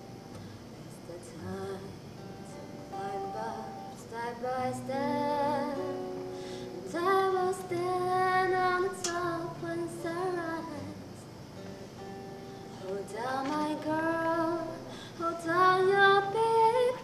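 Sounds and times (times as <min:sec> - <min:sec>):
acoustic guitar: 0:00.0 - 0:17.0
woman singing slow melody: 0:00.6 - 0:11.4, 0:12.7 - 0:17.0.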